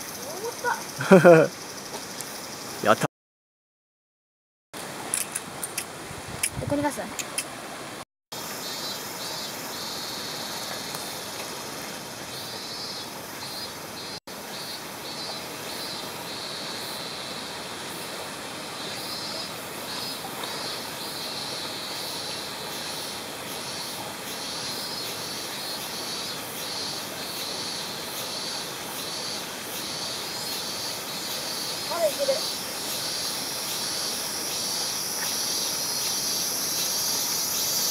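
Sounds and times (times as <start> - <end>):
stream water flowing: 4.8 - 37.9.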